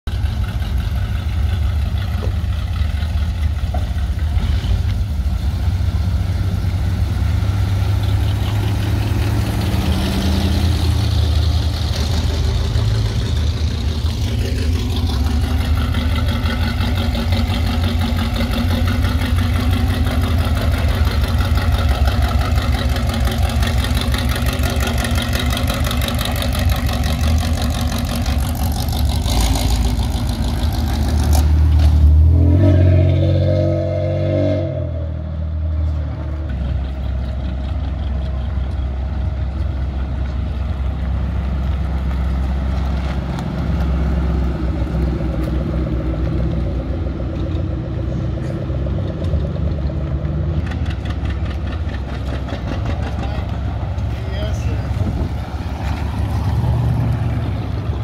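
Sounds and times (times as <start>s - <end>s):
car engines rumbling: 0.0s - 58.0s.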